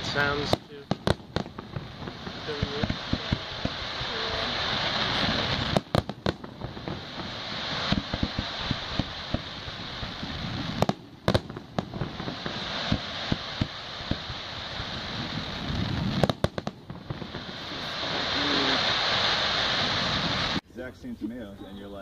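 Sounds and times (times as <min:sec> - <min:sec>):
firework crackling: 0:00.0 - 0:20.6
firework shells bursting: 0:00.0 - 0:20.6.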